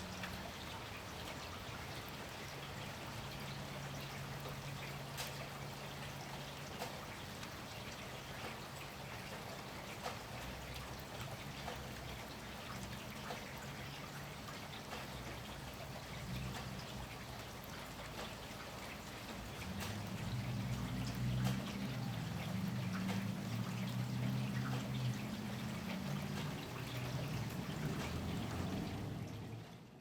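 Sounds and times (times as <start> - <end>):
sharp drips: 0.0 - 29.6
steady rain: 0.0 - 30.0.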